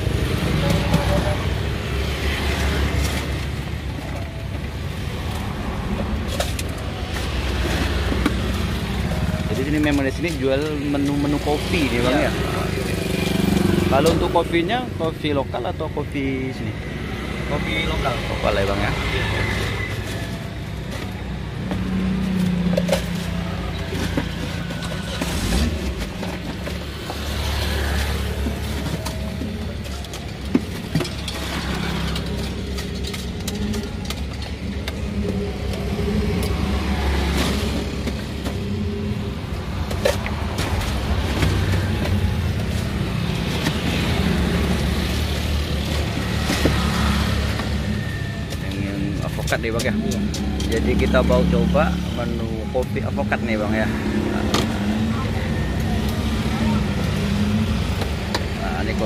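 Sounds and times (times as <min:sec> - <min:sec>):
low rumble of roadside traffic: 0:00.0 - 0:59.0.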